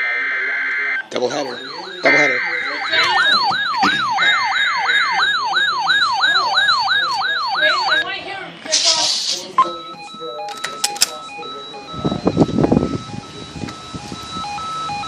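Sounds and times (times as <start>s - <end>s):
two-tone data squeal: 0.0s - 8.1s, 9.4s - 15.0s
electronic siren yelping: 0.0s - 8.2s, 9.6s - 15.0s.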